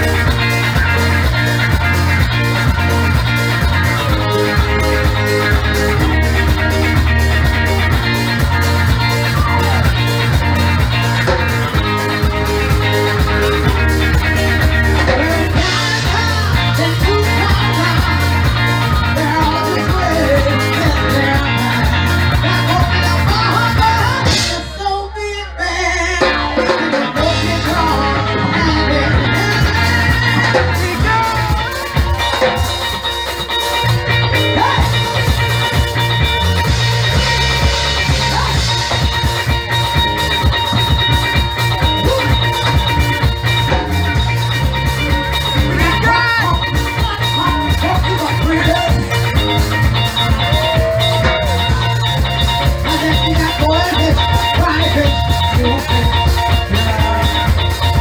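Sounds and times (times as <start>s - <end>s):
calypso band music: 0.0s - 58.0s.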